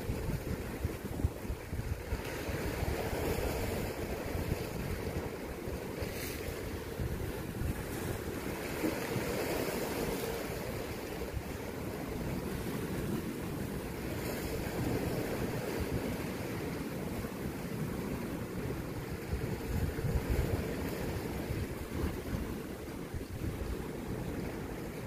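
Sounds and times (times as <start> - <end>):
sea waves splashing on rocks: 0.0 - 25.0
wind buffeting microphone: 0.0 - 25.0.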